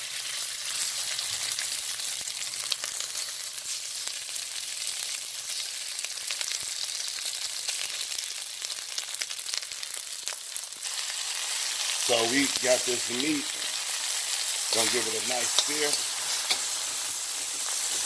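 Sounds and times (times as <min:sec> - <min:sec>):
beef sizzling in a wok: 0:00.0 - 0:18.0.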